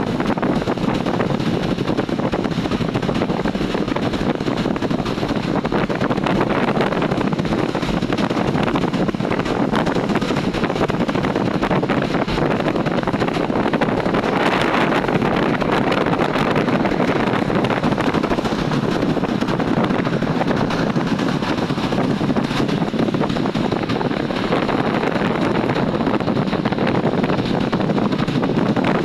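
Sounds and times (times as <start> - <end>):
road traffic noise: 0.0 - 29.0
wind buffeting microphone: 0.0 - 29.0.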